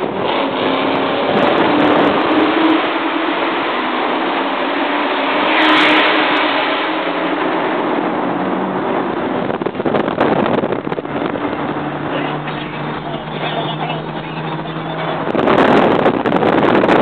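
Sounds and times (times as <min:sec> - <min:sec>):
engines and exhausts in tunnel: 0:00.0 - 0:17.0
road and wind noise: 0:00.0 - 0:17.0.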